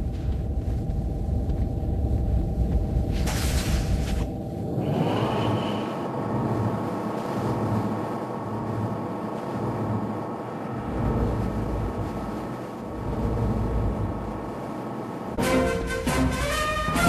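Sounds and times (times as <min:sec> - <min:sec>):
rushing haze: 0:00.0 - 0:15.4
lift hum drone: 0:00.0 - 0:17.0.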